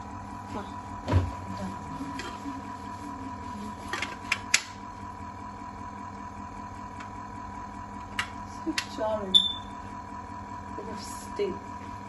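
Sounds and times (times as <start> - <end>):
chocolate fountain motor hum: 0.0 - 12.0.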